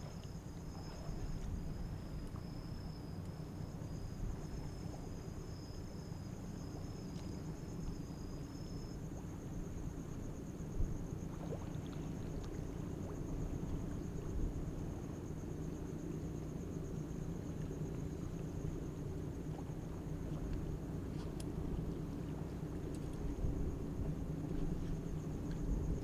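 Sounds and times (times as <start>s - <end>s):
insects trilling: 0.0s - 26.0s
steady low rumble: 0.0s - 26.0s.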